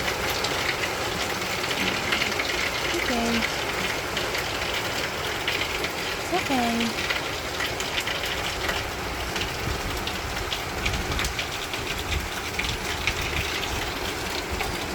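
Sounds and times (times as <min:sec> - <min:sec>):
raindrops ticking on surfaces: 0:00.0 - 0:14.9
steady rain falling: 0:00.0 - 0:14.9.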